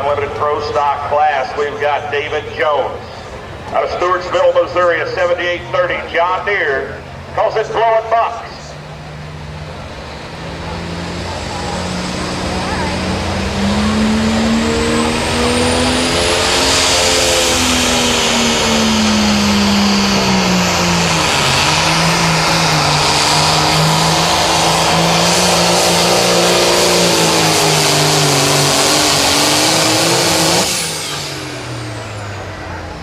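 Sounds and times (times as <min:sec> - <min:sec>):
diesel tractor engine at full power: 0:00.0 - 0:33.0.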